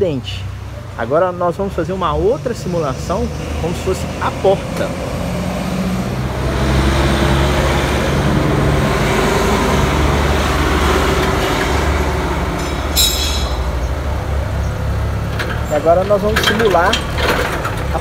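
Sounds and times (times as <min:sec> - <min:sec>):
forklift engine running: 0:01.8 - 0:18.0.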